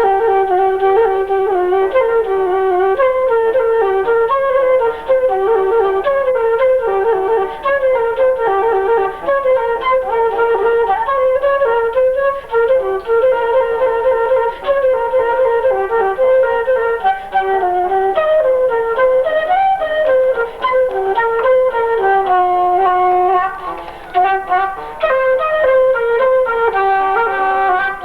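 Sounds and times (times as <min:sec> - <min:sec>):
high wind instrument melody: 0:00.0 - 0:28.0.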